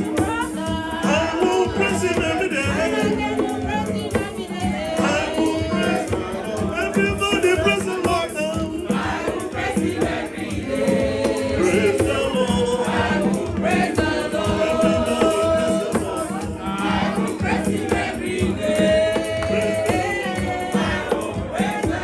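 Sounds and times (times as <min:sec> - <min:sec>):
choir singing: 0:00.0 - 0:22.0
rattling percussion beat: 0:00.0 - 0:22.0.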